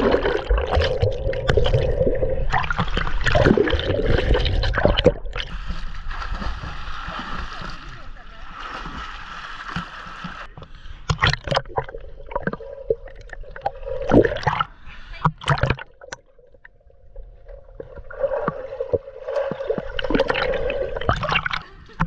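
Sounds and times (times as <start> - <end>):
muffled water splashing: 0.0 - 22.0.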